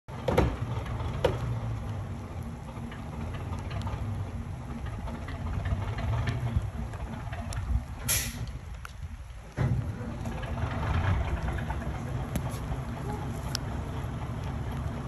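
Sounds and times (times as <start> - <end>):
crane engine running: 0.1 - 15.0.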